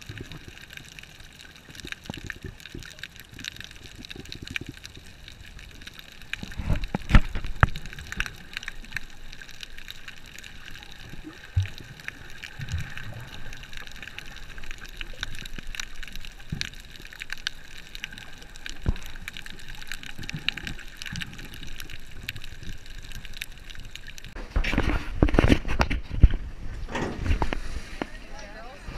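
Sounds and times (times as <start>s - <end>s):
muffled underwater movement: 0.0s - 28.9s
underwater clicks and crackles: 0.0s - 28.9s.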